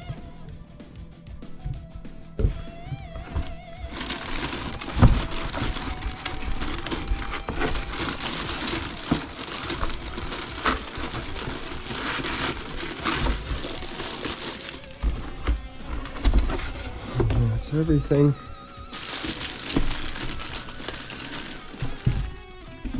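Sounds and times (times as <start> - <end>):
packaging crinkling: 3.1 - 22.9.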